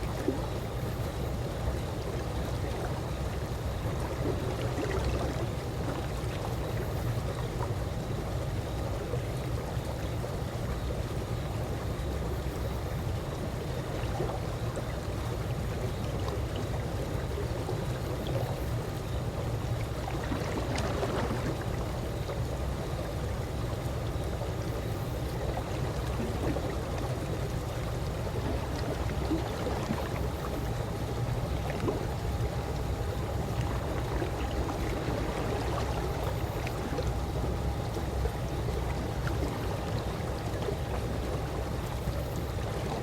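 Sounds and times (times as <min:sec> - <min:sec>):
pool water lapping: 0:00.0 - 0:43.0.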